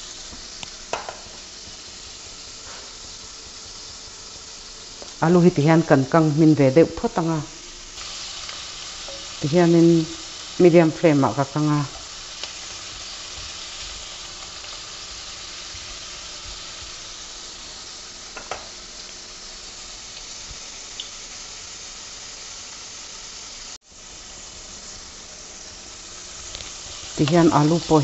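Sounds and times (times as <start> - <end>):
potatoes sizzling in hot oil: 0.0 - 28.0.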